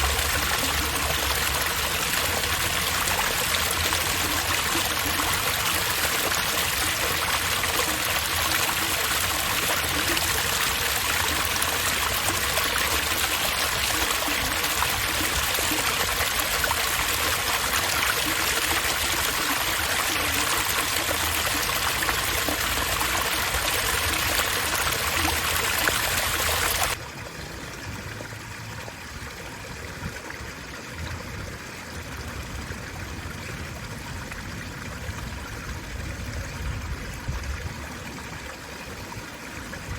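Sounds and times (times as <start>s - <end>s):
water rushing and trickling: 0.0s - 39.9s.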